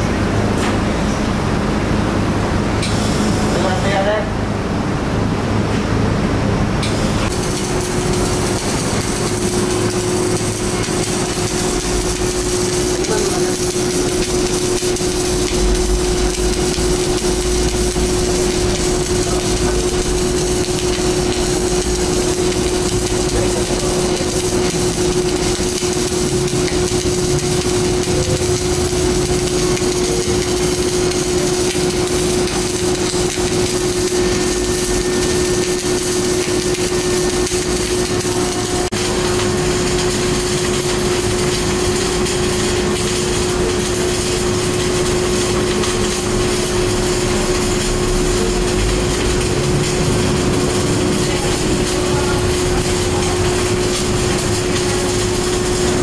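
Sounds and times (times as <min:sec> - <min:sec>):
steady hum: 0:00.0 - 0:56.0
welding arc sizzling: 0:01.8 - 0:04.3, 0:06.8 - 0:56.0.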